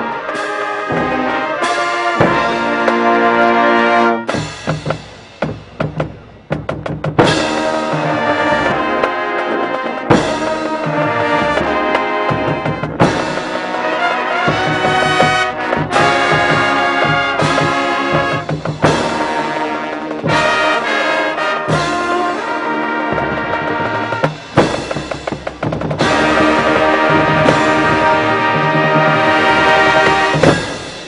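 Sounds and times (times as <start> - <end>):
brass band playing held chords: 0.0 - 31.0.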